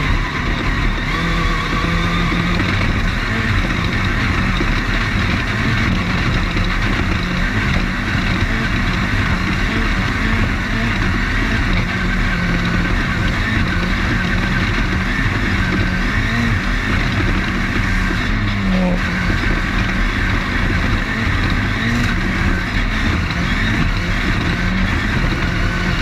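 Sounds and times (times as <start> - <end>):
race car engine: 0.0 - 26.0
road and chassis noise: 0.0 - 26.0.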